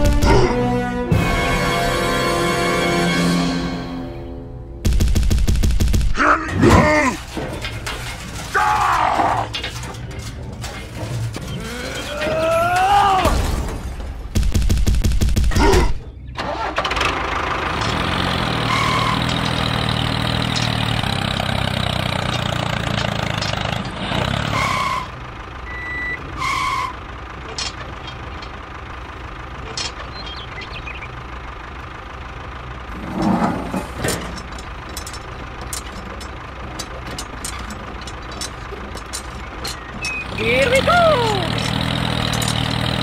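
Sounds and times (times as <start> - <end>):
tractor engine idling: 0.0 - 43.0.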